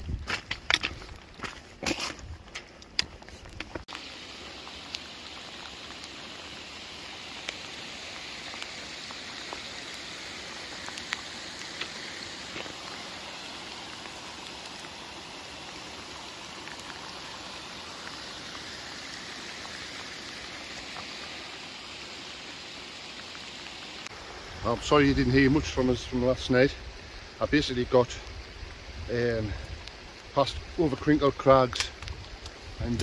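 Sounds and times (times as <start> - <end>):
rain falling: 0.0 - 33.0.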